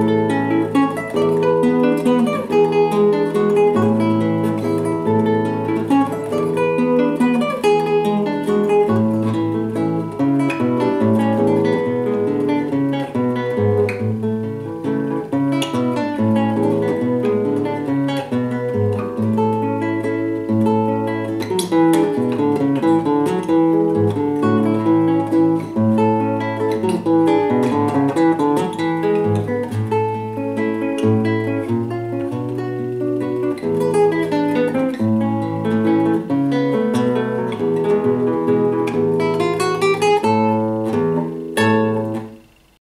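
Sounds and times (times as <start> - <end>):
fingerpicked classical guitar: 0.0 - 42.8.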